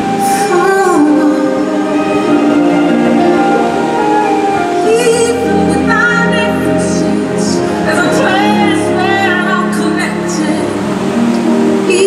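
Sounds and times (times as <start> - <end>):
orchestral chords: 0.0 - 12.0
person singing long notes: 0.0 - 12.0.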